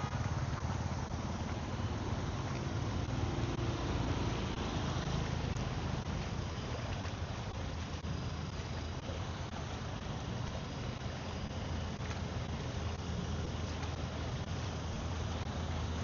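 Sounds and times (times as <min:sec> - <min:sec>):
vehicle engines rumbling in traffic: 0:00.0 - 0:16.0
water washing: 0:00.0 - 0:16.0.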